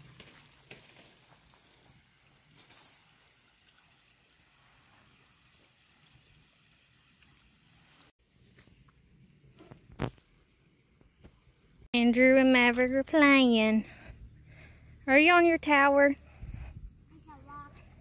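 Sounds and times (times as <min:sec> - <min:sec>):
high-pitched insect chorus: 0:00.3 - 0:18.0.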